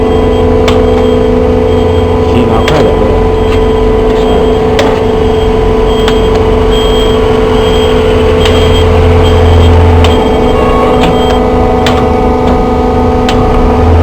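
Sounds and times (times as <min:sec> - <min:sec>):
baler machine hum: 0:00.0 - 0:14.0
deep low drone: 0:00.0 - 0:14.0.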